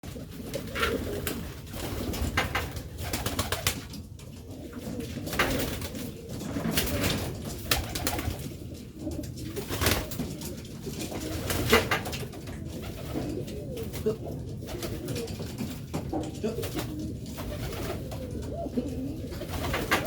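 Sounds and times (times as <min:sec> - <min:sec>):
pigeons cooing: 0:00.1 - 0:20.0.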